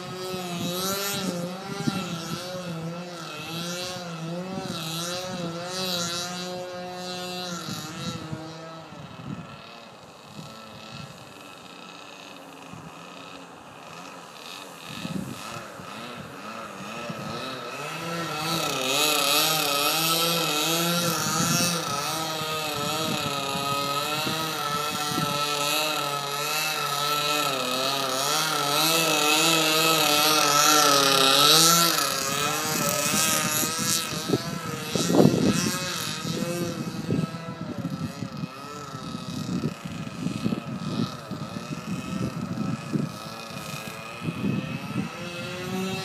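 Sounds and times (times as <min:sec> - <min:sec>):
model plane engine in flight: 0:00.0 - 0:46.0.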